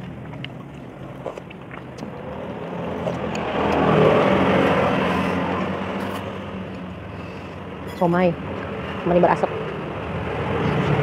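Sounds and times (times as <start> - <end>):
traffic hum: 0.0 - 11.0
vehicle passing: 2.0 - 11.0.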